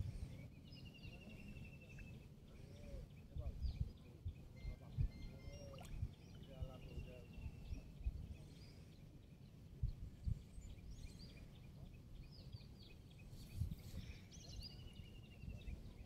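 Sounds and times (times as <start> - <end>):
birds chirping and trilling: 0.0 - 9.6, 10.2 - 16.0
faint outdoor background noise: 0.0 - 16.0.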